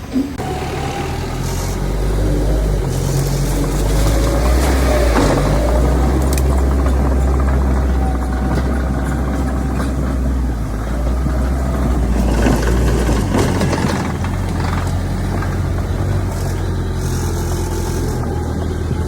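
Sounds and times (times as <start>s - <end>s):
heavy diesel engine: 0.0s - 19.0s
clatter: 1.4s - 19.0s.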